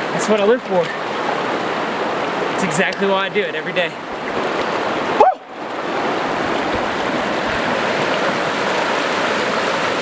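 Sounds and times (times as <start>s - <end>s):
river rushing over rapids: 0.0s - 10.0s.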